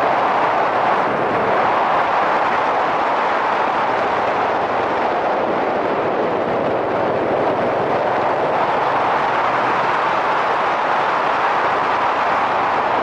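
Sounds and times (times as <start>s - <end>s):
wind rushing over helmet: 0.0s - 13.0s.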